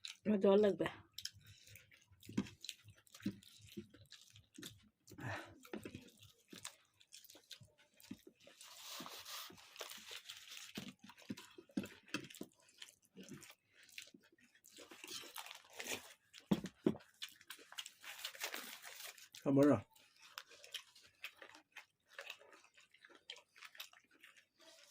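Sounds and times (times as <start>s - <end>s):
chewing and crunching food: 0.0s - 24.9s.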